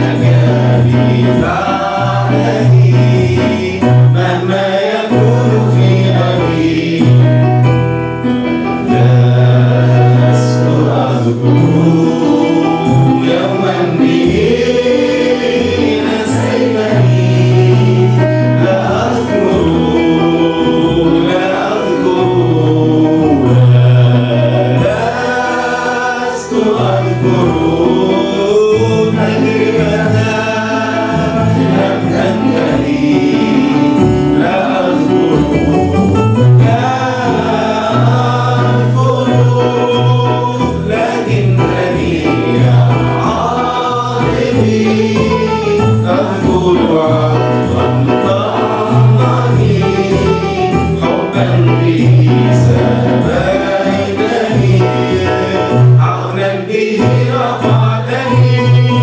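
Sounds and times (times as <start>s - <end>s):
man singing lead: 0.0s - 7.6s, 8.6s - 59.0s
electronic keyboard accompaniment: 0.0s - 59.0s
group singing along: 0.0s - 59.0s.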